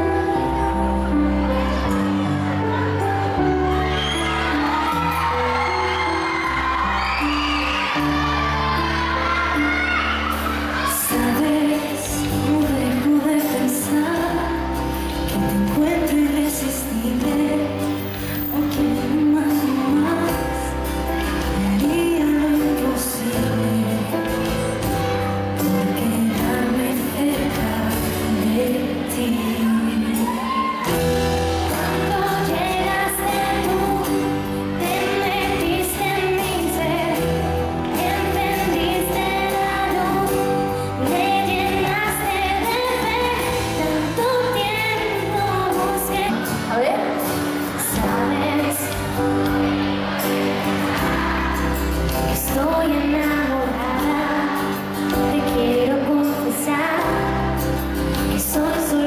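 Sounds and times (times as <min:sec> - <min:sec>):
acoustic guitar: 0:00.0 - 0:59.0
women singing into microphones: 0:10.6 - 0:24.9, 0:25.6 - 0:59.0.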